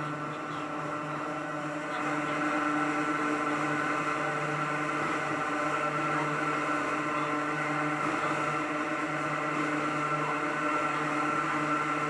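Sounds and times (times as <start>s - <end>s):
electric railcar motor hum: 0.0s - 12.0s.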